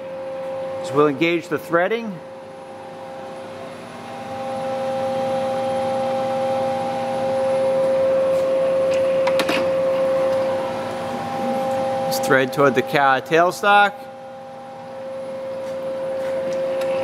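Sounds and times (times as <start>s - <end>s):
lathe running with whine: 0.0s - 17.0s.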